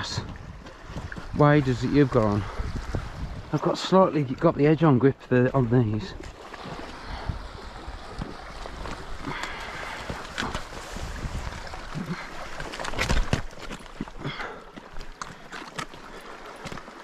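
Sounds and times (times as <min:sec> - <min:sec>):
footsteps splashing through water: 0:00.0 - 0:03.5, 0:06.1 - 0:17.0.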